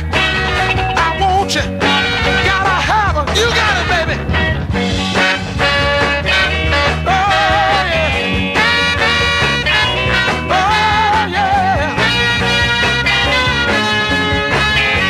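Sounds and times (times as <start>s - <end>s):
soul music band: 0.0s - 15.0s.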